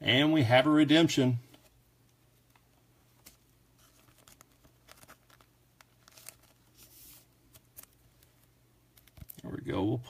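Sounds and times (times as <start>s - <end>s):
low electrical hum: 0.0s - 10.0s
handling cards and plastic sleeves: 1.5s - 9.9s.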